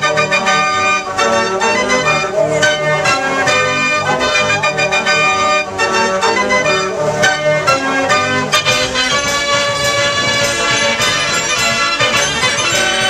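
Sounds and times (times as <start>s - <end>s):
lively organ music: 0.0s - 13.0s.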